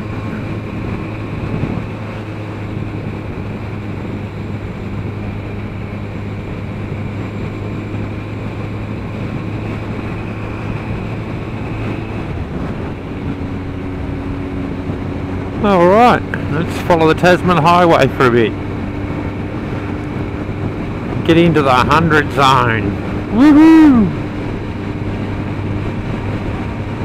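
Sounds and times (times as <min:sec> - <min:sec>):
motorcycle engine cruising: 0:00.0 - 0:27.0
road and wind noise: 0:00.0 - 0:27.0.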